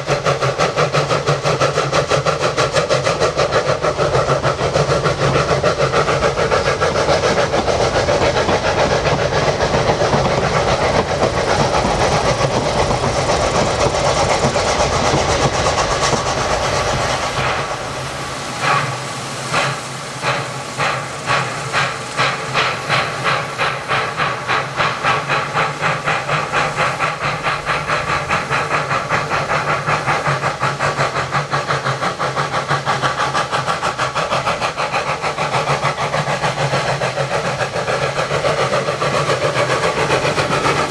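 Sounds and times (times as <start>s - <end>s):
steam locomotive exhaust chuffing: 0.0s - 40.9s
steam locomotive hiss and rumble: 0.0s - 40.9s.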